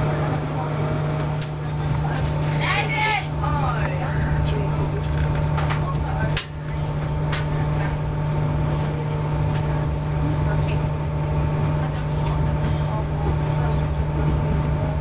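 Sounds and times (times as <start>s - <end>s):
constant low hum: 0.0s - 15.0s
train rumbling from inside carriage: 0.0s - 15.0s.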